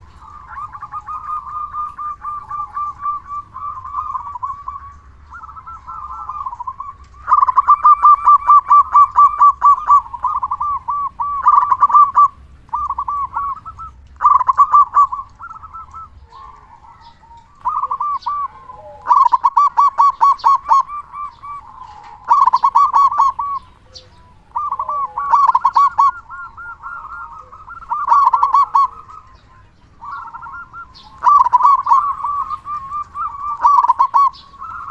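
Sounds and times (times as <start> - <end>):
dove rolling coo: 0.0 - 34.9.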